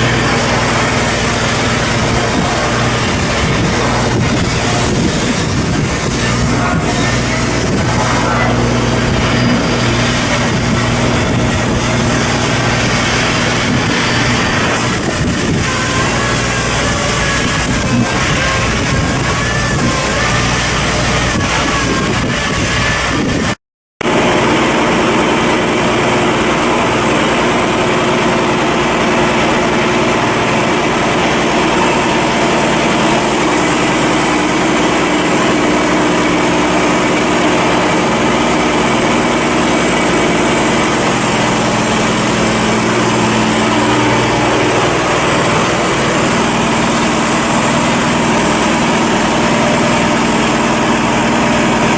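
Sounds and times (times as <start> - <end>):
ship engine running: 0.0 - 51.9
wavering whine: 0.0 - 51.9.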